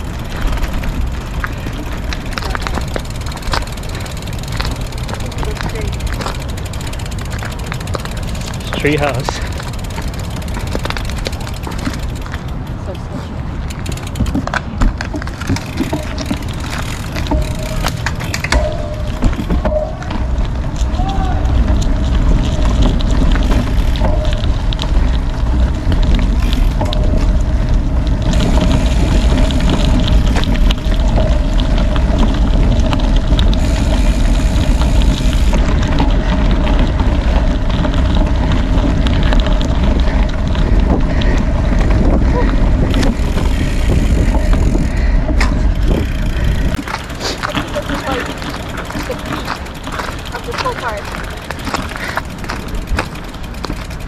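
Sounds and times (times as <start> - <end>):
wind noise on microphone: 0.0 - 50.5
bicycle tyres on gravel: 0.0 - 54.0.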